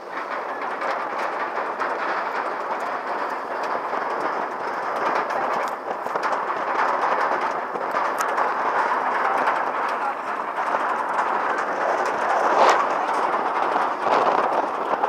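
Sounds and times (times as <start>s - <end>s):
roller coaster lift rolling: 0.0s - 15.0s.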